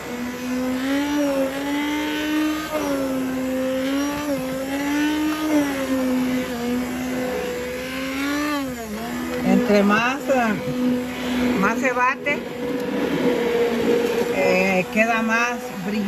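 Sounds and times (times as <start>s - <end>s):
immersion blender motor whine: 0.0s - 16.0s.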